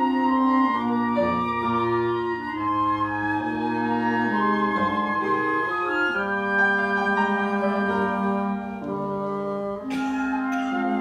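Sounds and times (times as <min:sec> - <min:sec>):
flute: 0:00.0 - 0:11.0.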